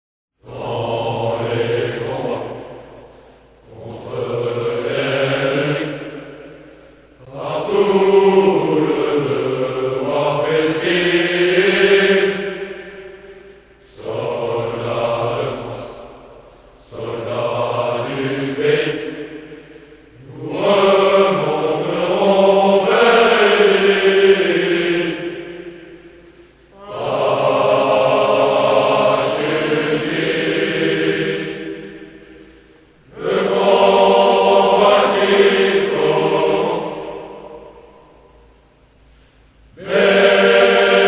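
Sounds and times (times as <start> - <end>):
unaccompanied voices chanting: 0.4 - 38.4, 39.7 - 41.0.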